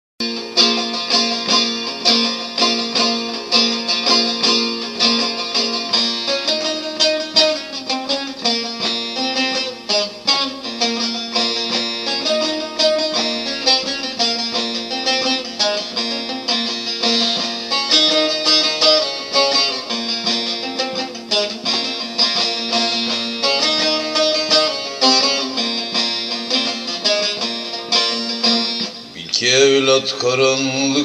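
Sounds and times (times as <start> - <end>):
plucked string instrument melody: 0.2 - 31.0.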